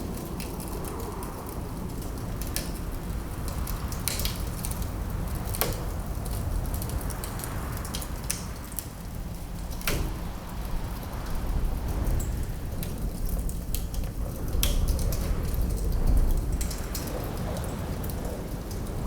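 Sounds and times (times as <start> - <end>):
low rumble of wind: 0.0 - 19.0
wood fire crackling: 0.0 - 19.0.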